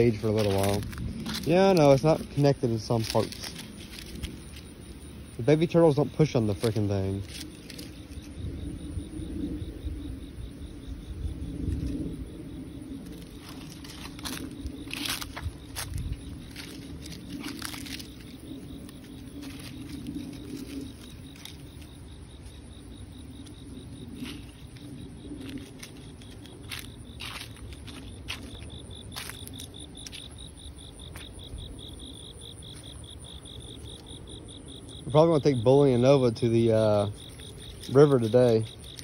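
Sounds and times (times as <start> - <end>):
dry leaves crackling underfoot: 0.0 - 9.1, 11.6 - 39.0
cricket chirping: 0.0 - 39.0.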